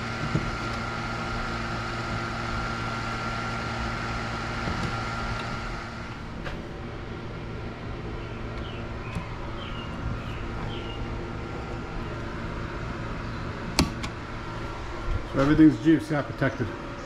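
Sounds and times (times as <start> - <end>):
mechanical hum with high whine: 0.0 - 17.0.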